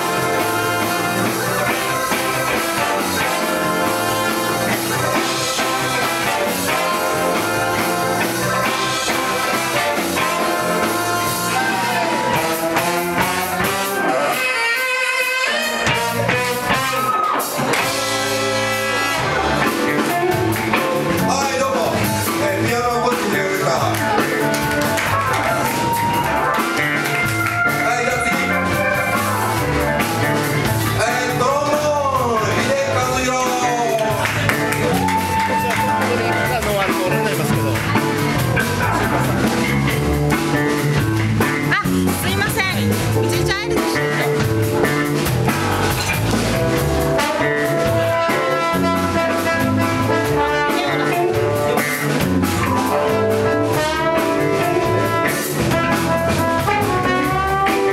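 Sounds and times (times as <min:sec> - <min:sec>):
blues rock band playing: 0:00.0 - 0:57.9.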